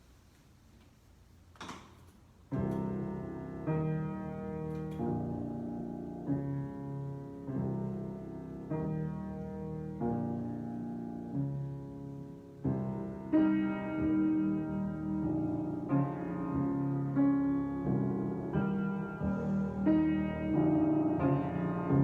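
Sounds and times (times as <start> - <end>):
piano chords ringing: 2.5 - 22.0.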